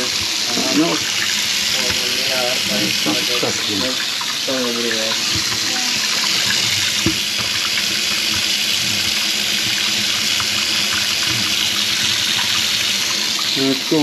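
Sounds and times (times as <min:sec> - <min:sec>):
water running from faucet: 0:00.0 - 0:14.0.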